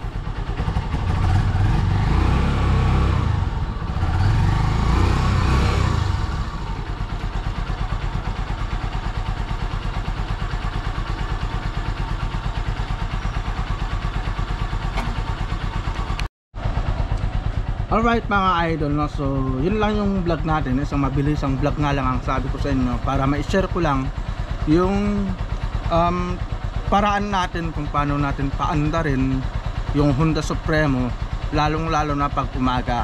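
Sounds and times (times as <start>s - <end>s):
motorcycle engine revving and idling: 0.0s - 33.0s.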